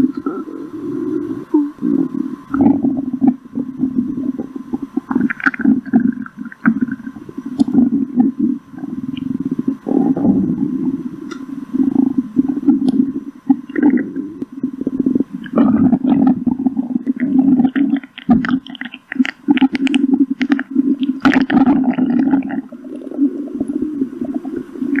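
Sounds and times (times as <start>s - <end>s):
stomach growling: 0.0s - 25.0s.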